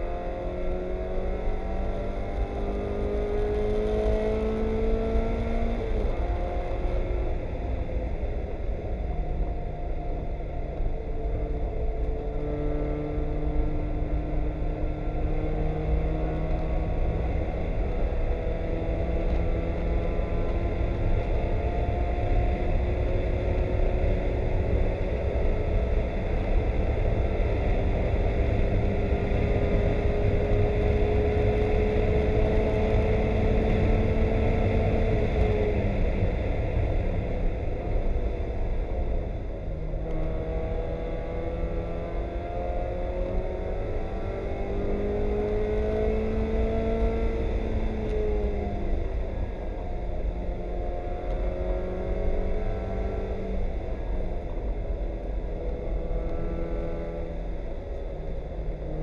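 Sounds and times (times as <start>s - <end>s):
road noise rumble: 0.0s - 59.0s.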